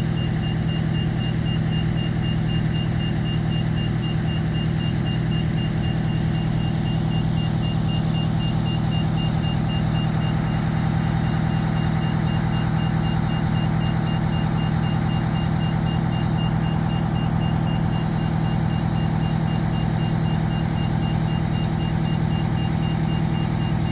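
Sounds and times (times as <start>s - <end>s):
diesel engine idling: 0.0s - 23.9s
high electronic beeping: 0.2s - 23.9s.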